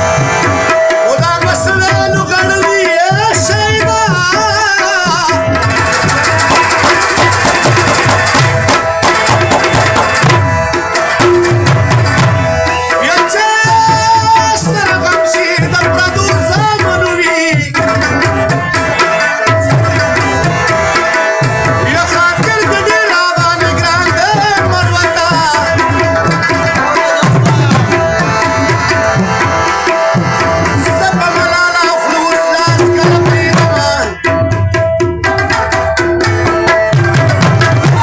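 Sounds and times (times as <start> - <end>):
tabla beat: 0.0 - 38.0.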